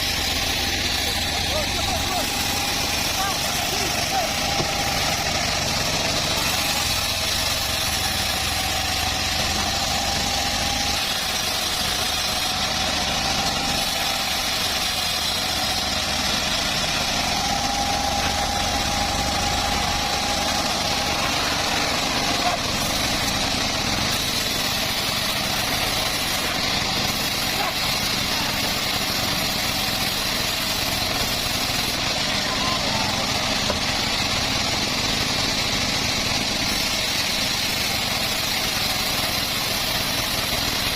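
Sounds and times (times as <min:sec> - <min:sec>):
bandsaw mill engine droning: 0:00.0 - 0:40.9.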